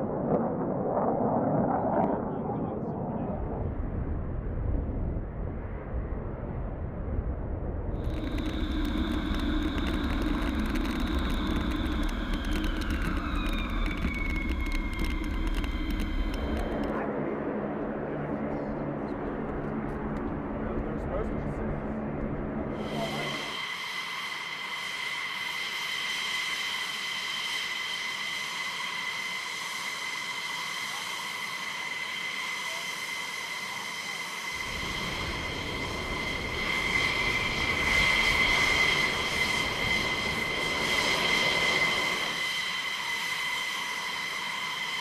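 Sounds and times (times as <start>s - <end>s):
jet engines rumbling and whining: 0.0s - 45.0s.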